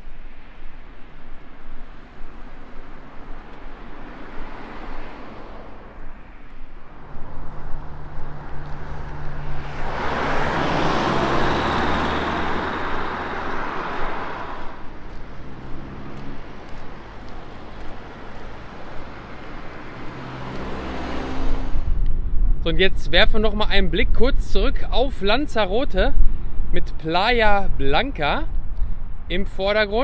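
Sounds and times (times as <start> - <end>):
vehicle engine drone: 0.0 - 24.7.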